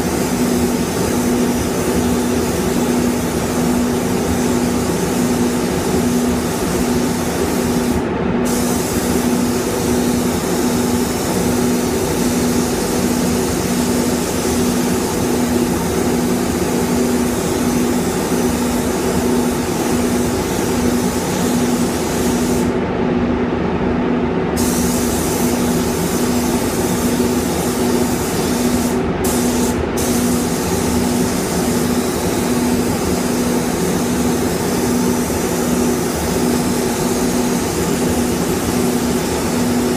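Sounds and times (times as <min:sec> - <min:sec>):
paint spray gun hissing: 0:00.0 - 0:22.8, 0:24.6 - 0:39.9.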